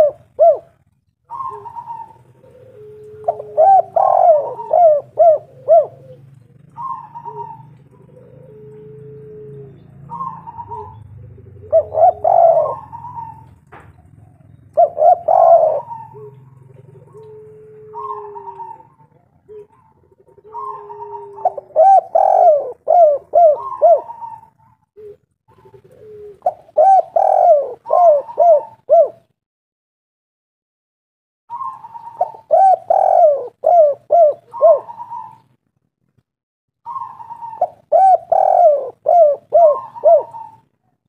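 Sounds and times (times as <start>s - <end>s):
dove cooing: 0.0s - 29.4s, 31.5s - 35.6s, 36.8s - 41.0s.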